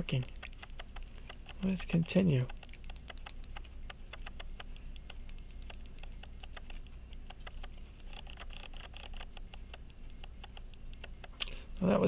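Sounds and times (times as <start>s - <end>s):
pocket watch ratchet clicking: 0.0s - 11.4s.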